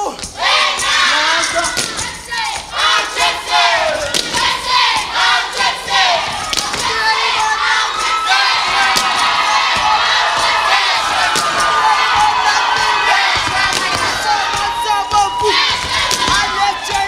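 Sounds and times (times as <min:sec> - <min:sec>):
young voices shouting and cheering: 0:00.0 - 0:17.0.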